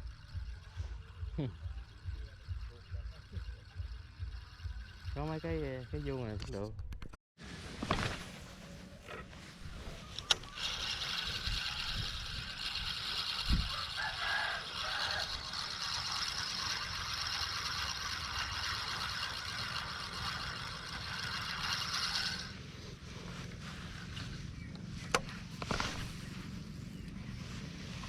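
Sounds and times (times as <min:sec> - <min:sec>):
fishing reel whirring: 0:00.0 - 0:06.4, 0:09.0 - 0:24.6, 0:25.2 - 0:27.0.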